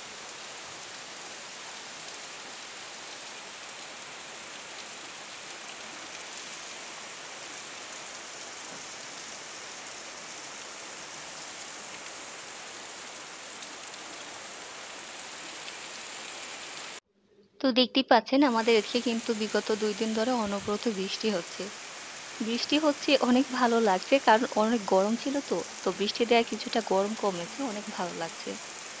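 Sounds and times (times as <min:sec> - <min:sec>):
steady downpour of rain: 0:00.0 - 0:17.0, 0:18.4 - 0:29.0.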